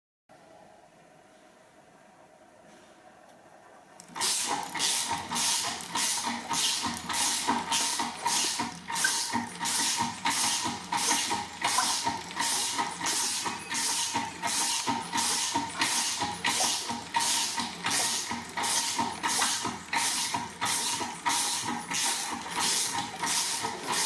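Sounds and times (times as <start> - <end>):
engine mechanical clatter: 3.6 - 24.0.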